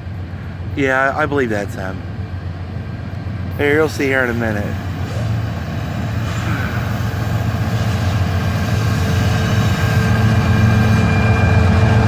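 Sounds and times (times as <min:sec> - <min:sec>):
diesel locomotive engine rumble: 0:00.0 - 0:12.0.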